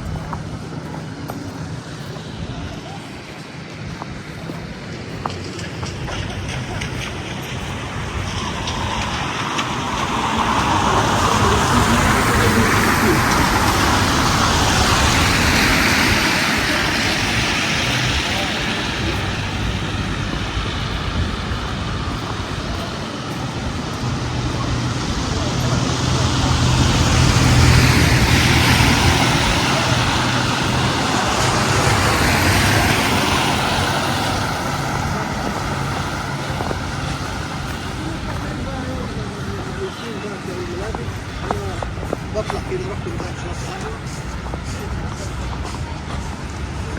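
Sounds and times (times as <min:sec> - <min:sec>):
road vehicle running: 0:00.0 - 0:46.9.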